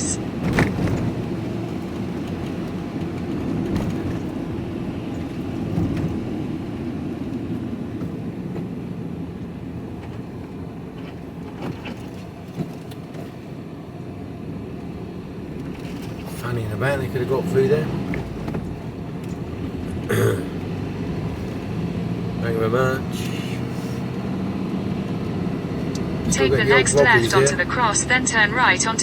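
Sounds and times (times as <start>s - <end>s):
diesel engine running: 0.0s - 29.0s
road rumble: 0.0s - 29.0s.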